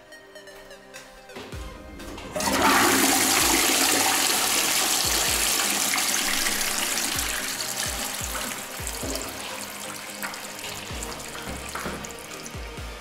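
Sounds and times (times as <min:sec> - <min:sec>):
toilet flushing: 0:01.8 - 0:13.0.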